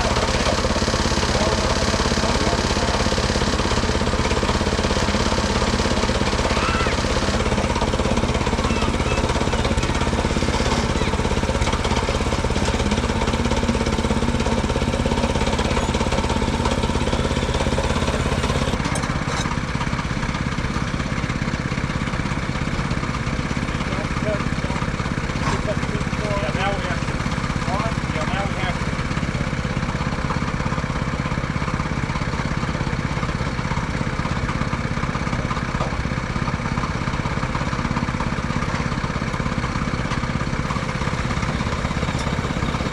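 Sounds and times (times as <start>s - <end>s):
sawmill gasoline engine running: 0.0s - 42.9s.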